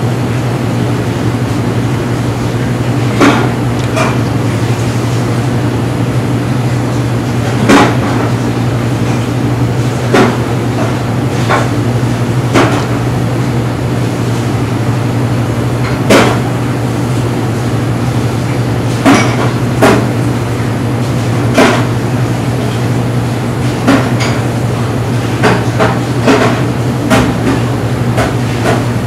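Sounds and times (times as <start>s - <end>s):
kitchen equipment humming: 0.0s - 29.0s.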